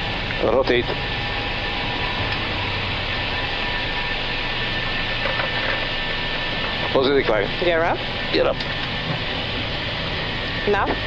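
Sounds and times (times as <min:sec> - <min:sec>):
airliner engines at takeoff thrust: 0:00.0 - 0:11.0.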